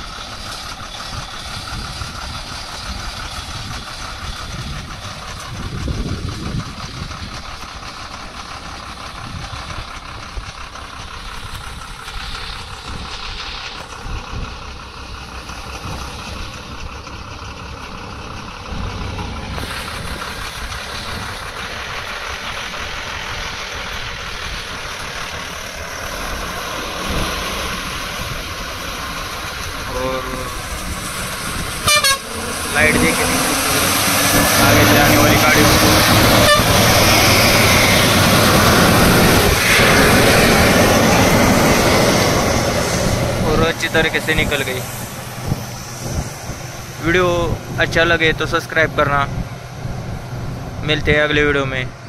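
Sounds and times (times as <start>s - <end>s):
truck diesel engine passing: 0.0s - 52.0s
tyre and road noise: 0.0s - 52.0s.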